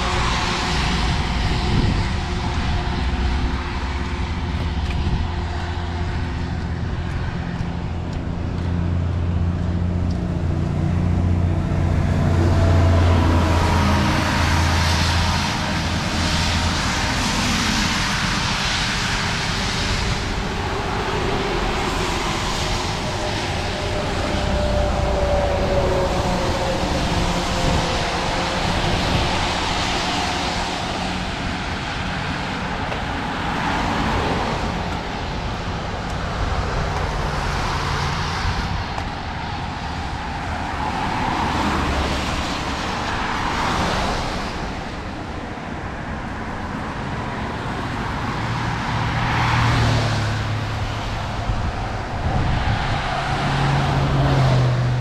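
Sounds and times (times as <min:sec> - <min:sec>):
engine droning: 0:00.0 - 0:55.0
tyres hissing on wet pavement: 0:10.3 - 0:55.0.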